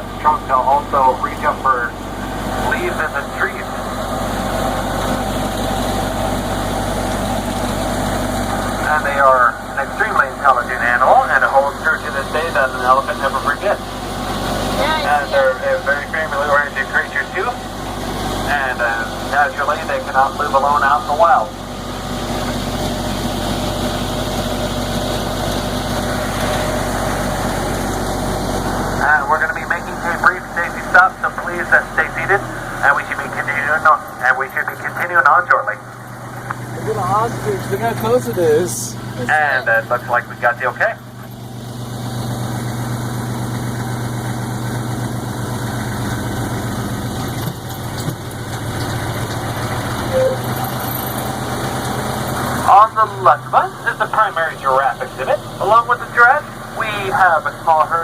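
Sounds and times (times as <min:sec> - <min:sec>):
tram engine droning: 0:00.0 - 0:58.0.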